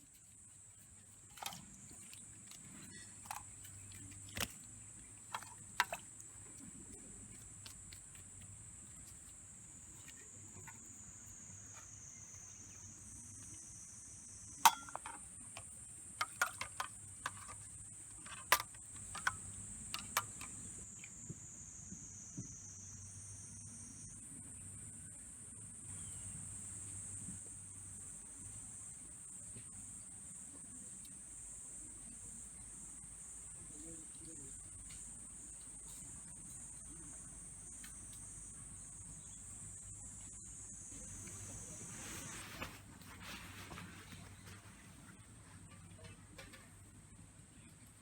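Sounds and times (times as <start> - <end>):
high-pitched insect chorus: 0.0 - 42.8.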